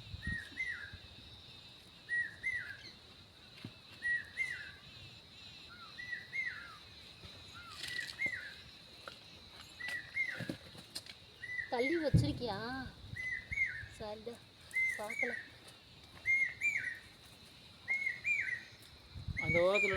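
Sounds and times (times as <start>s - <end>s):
steady high-pitched whine: 0.0s - 19.9s.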